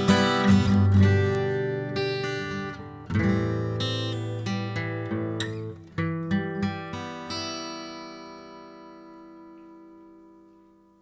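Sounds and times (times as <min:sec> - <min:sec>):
acoustic guitar chord ringing: 0:00.0 - 0:11.0
acoustic guitar picked notes: 0:00.0 - 0:11.0.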